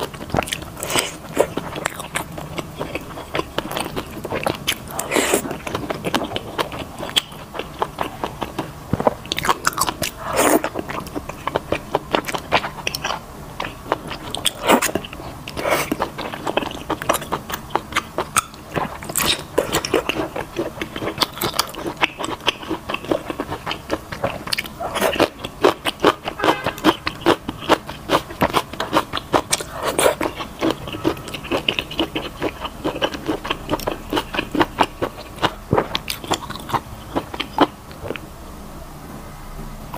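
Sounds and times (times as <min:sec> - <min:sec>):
person chewing wetly: 0:00.0 - 0:38.2.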